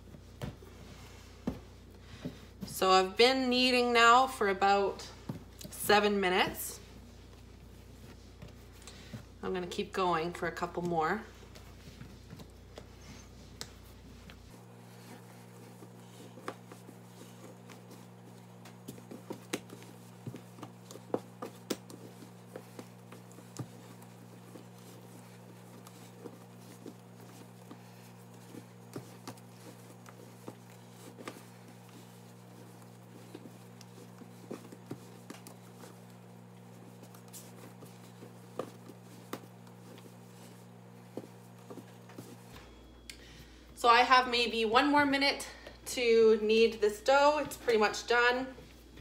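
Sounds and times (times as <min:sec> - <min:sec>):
hands kneading dough: 0:00.0 - 0:49.0
steady low hum: 0:00.0 - 0:49.0.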